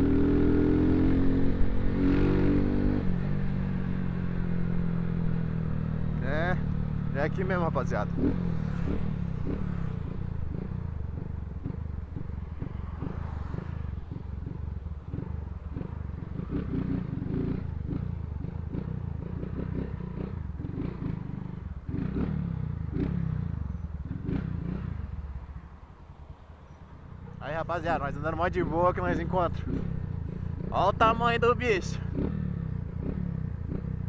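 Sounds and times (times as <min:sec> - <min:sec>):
motorcycle engine with loud exhaust: 0:00.0 - 0:34.0.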